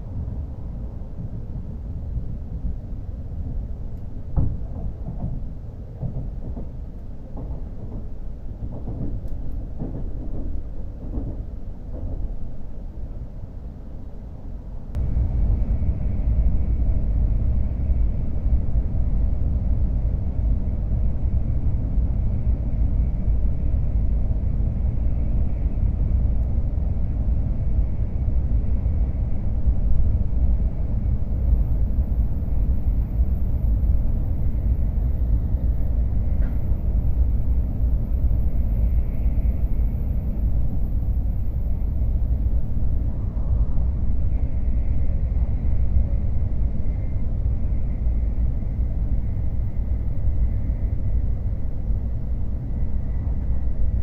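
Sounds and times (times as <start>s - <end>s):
high-speed train cabin rumble: 0.0s - 54.0s.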